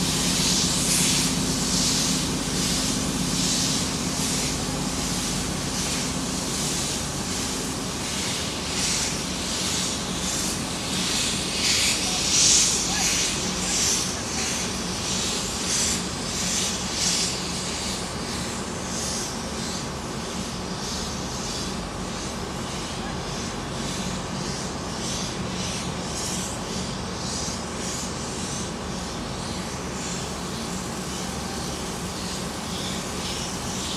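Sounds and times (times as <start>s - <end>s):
steady low hum: 0.0s - 33.9s
steam hissing from drain cocks: 0.0s - 33.9s
steam locomotive chuffing: 0.0s - 33.9s.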